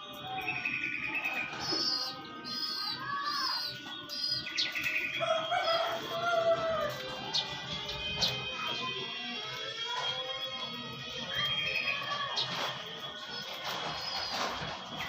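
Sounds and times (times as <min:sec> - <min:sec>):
background music with held tones: 0:00.0 - 0:15.0
birds chirping: 0:00.0 - 0:15.0.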